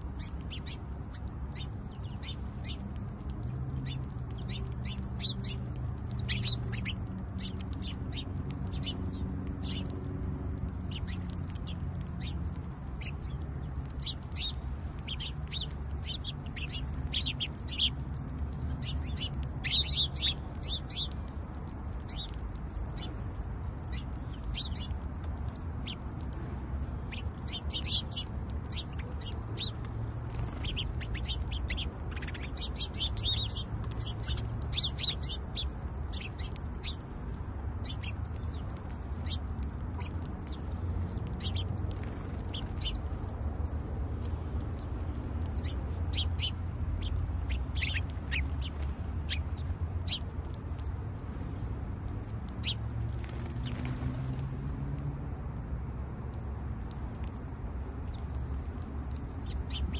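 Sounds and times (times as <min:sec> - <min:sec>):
sparrows chirping: 0:00.0 - 0:54.4, 0:57.0 - 0:59.9.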